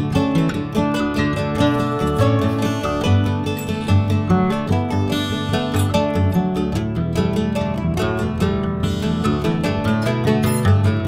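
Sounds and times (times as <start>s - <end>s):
plucked string tune: 0.0s - 11.0s.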